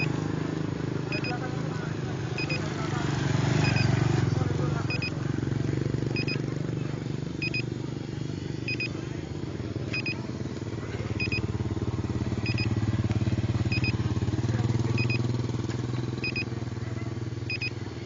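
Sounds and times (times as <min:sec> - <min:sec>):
engine running with rapid pulse: 0:00.0 - 0:18.0.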